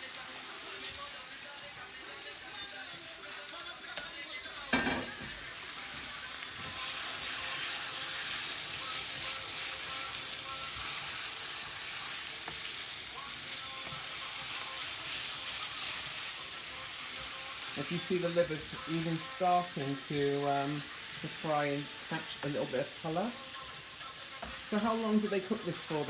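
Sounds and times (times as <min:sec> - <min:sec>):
liver sizzling in hot oil: 0:00.0 - 0:26.0.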